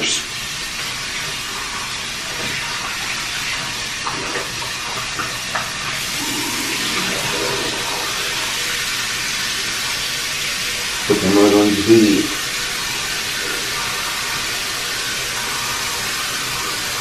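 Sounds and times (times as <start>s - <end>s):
faucet running into sink: 0.0s - 17.0s.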